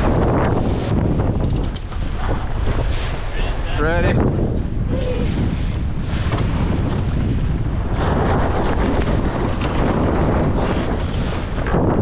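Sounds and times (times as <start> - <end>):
water rushing past hull: 0.0 - 12.0
wind buffeting microphone: 0.0 - 12.0.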